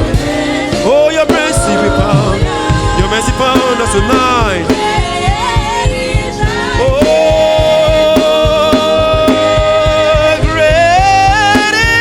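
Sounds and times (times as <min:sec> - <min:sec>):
keyboard chords: 0:00.0 - 0:12.0
steady drum beat: 0:00.0 - 0:12.0.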